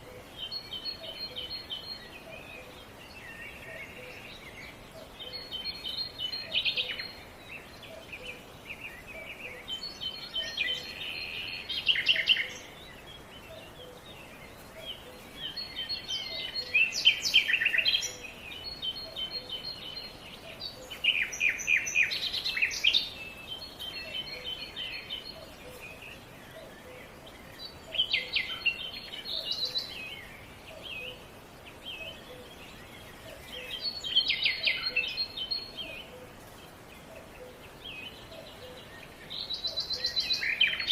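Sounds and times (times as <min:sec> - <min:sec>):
faint background hiss: 0:00.0 - 0:40.9
songbird chirping and trilling: 0:00.0 - 0:40.9.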